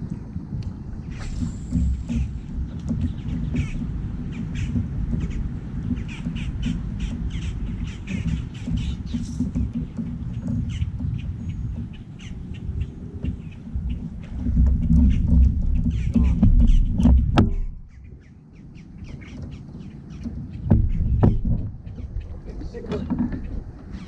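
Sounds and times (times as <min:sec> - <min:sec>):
wind on microphone: 0:00.0 - 0:24.0
bird calling: 0:00.8 - 0:24.0.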